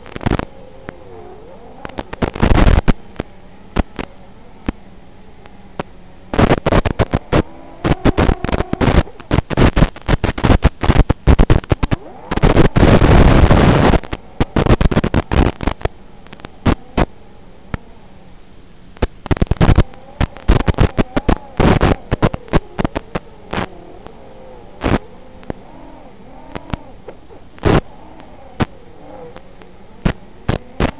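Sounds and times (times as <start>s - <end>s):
crackling radio static: 0.0s - 30.9s
steady hum and hiss: 0.0s - 30.9s.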